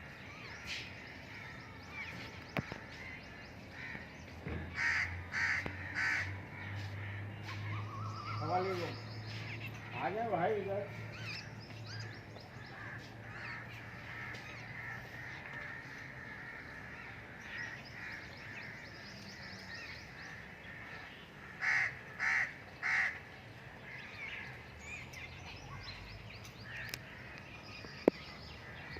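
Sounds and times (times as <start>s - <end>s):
birds chirping and twittering: 0.0s - 28.9s.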